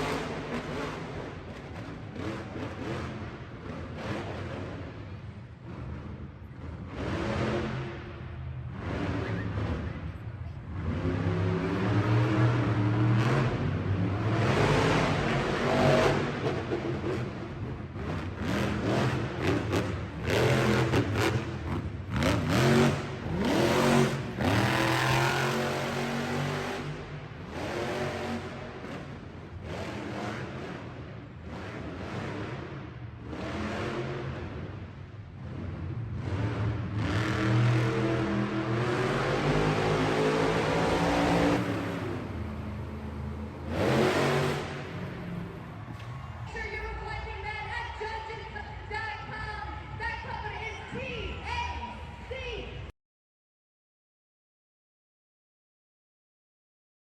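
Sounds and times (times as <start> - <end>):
monster truck engine revving: 0.0 - 46.5.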